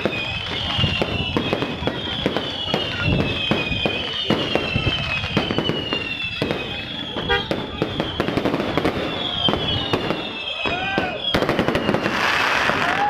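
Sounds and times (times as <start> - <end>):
fireworks bangs and crackles: 0.0 - 13.0
high descending whistles: 0.0 - 13.0.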